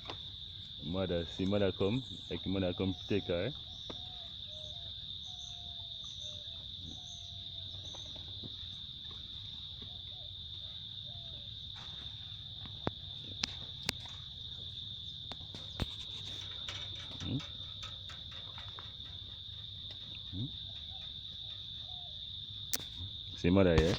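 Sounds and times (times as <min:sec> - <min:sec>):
insects droning: 0:00.0 - 0:23.9
animal calls: 0:01.2 - 0:23.2.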